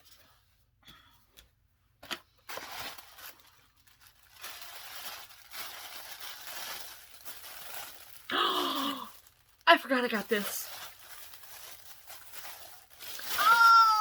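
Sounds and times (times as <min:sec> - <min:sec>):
packing material crinkling: 0:02.4 - 0:14.0.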